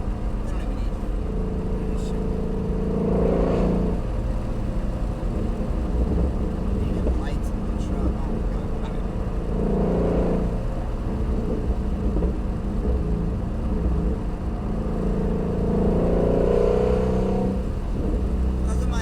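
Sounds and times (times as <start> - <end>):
car engine droning under way: 0.0 - 19.0.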